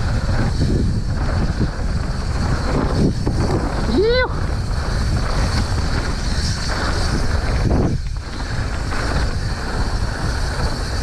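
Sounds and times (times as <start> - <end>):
bike rolling on trail rumble: 0.0 - 11.0
wind buffeting microphone: 0.0 - 11.0.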